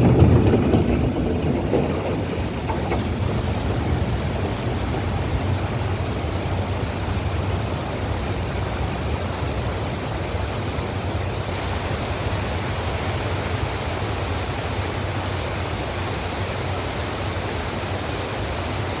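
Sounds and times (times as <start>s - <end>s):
passenger train passing: 0.0s - 8.0s, 11.5s - 19.0s.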